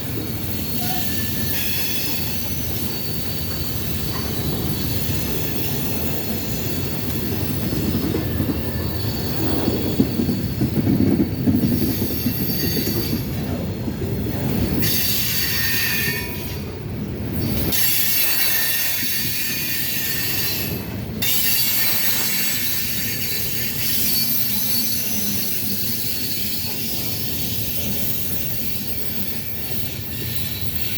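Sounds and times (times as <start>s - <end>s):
steel wheels squealing: 0.0s - 30.9s
train low rumble: 0.0s - 30.9s.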